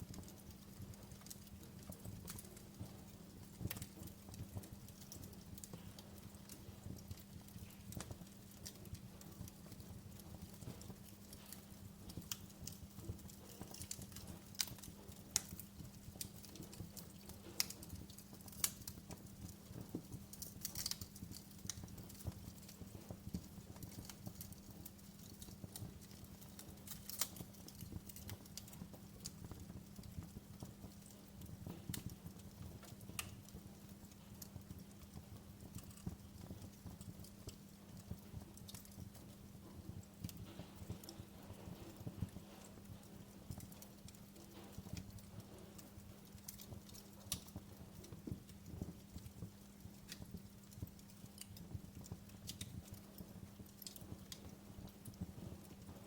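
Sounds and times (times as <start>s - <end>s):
faint steady low hum: 0.0s - 56.0s
wood fire crackling: 0.0s - 56.0s.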